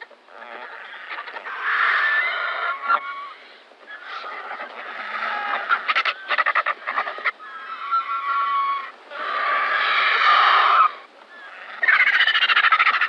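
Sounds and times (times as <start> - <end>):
vulture harsh rasping calls: 0.3 - 13.0.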